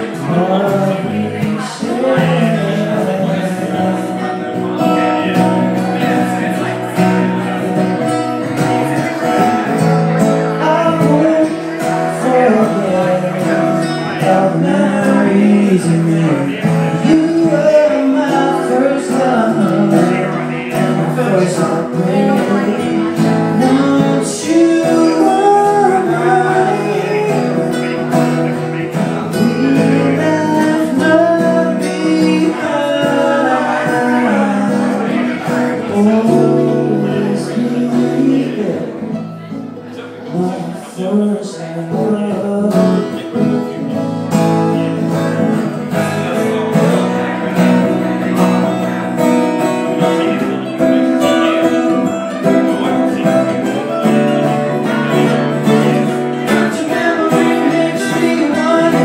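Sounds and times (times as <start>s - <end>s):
acoustic guitars strummed: 0.0s - 59.0s
man singing: 0.0s - 59.0s.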